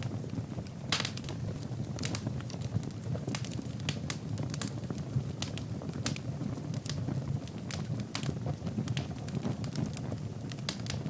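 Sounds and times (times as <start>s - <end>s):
logs crackling and popping: 0.0s - 11.0s
low rush of flames: 0.0s - 11.0s.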